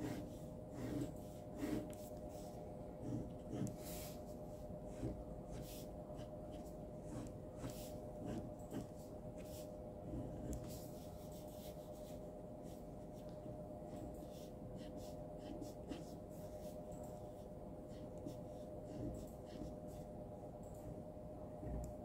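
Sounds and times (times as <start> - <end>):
ballpoint pen scratching on paper: 0.0 - 4.2, 4.9 - 13.3, 13.9 - 16.7, 17.3 - 20.1
steady low hum: 0.0 - 22.0.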